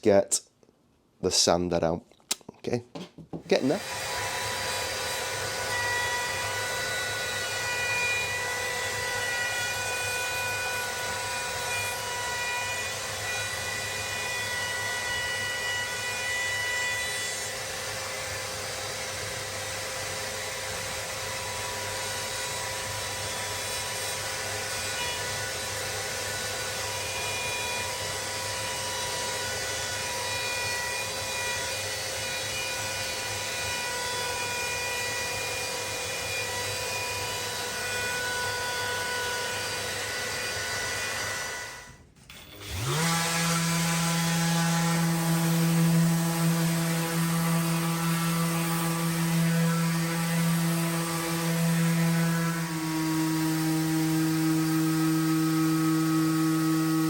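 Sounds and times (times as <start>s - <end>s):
power tool on wood: 3.3s - 57.0s.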